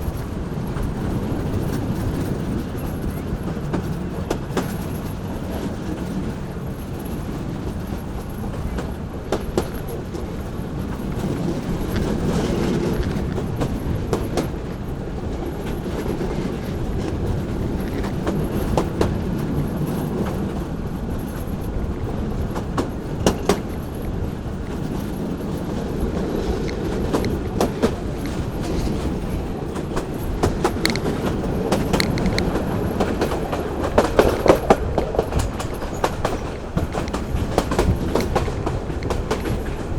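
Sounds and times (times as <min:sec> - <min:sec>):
train low rumble: 0:00.0 - 0:39.9
wheels clicking over rail joints: 0:00.0 - 0:39.9.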